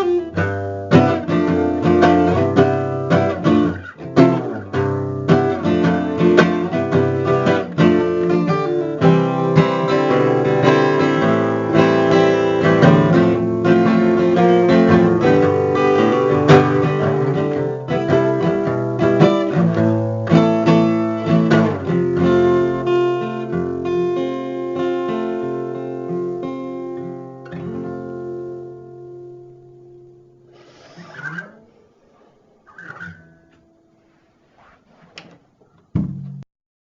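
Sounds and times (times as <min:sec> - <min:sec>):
strummed acoustic guitar: 0:00.0 - 0:35.1.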